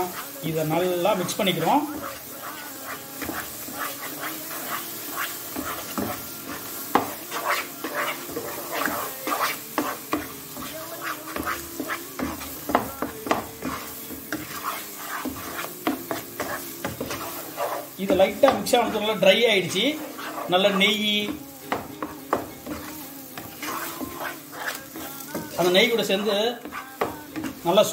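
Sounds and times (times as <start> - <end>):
light sizzle: 0.0 - 27.9
wooden spatula scraping pan: 0.0 - 27.9.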